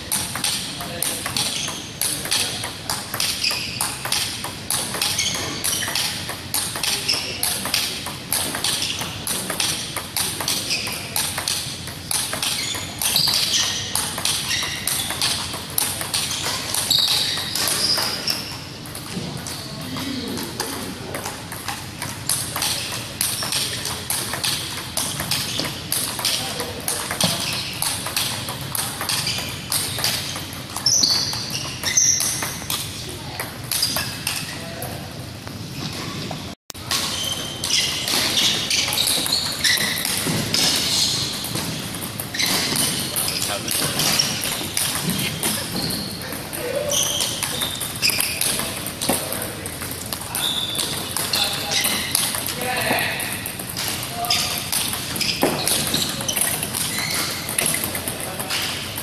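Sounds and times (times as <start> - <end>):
table tennis balls clicking: 0.1 - 34.9, 36.7 - 59.0.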